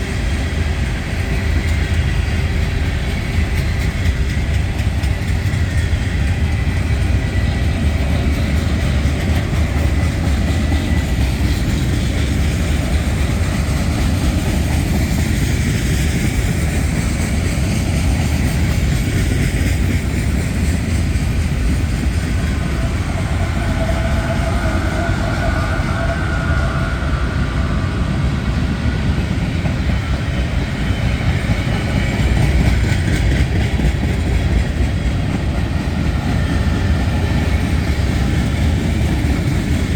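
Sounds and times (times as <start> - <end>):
train wheels rumbling on rail: 0.0 - 39.9
wheels clickety-clack: 0.0 - 39.9.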